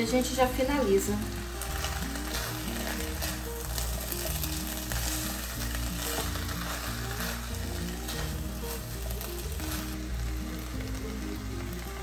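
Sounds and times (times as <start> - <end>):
food sizzling in a pot: 0.0 - 12.0
soft background music: 0.0 - 12.0
spatula stirring: 0.4 - 12.0.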